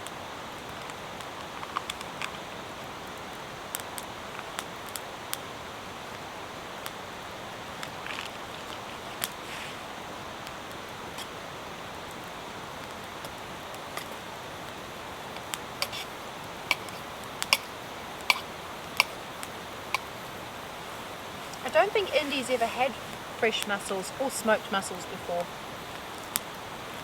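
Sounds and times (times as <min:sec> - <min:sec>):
campfire crackling and popping: 0:00.0 - 0:27.0
rain hissing: 0:00.0 - 0:27.0.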